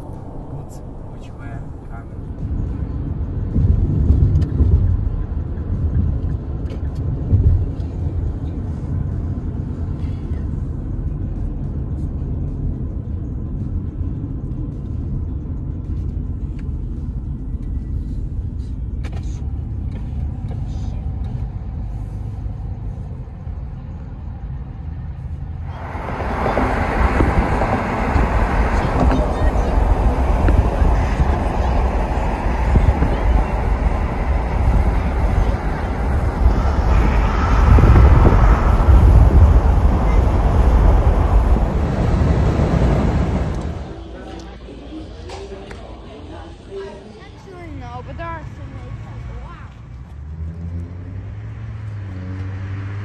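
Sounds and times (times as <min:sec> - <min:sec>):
road and tyre noise inside car: 0:00.0 - 0:53.0.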